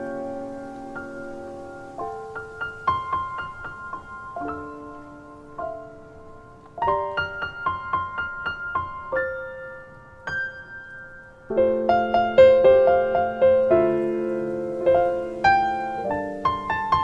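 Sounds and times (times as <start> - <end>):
gentle solo piano music: 0.0 - 17.0.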